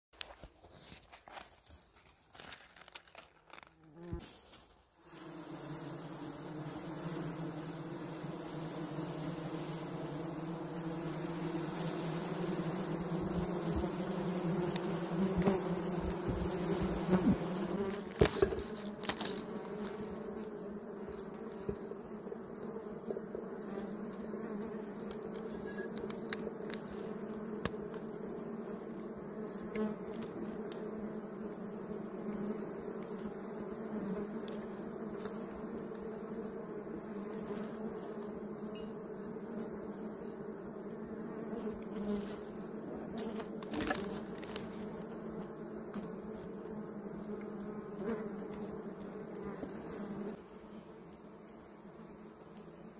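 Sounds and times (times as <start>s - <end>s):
honeybees buzzing: 5.0s - 52.9s.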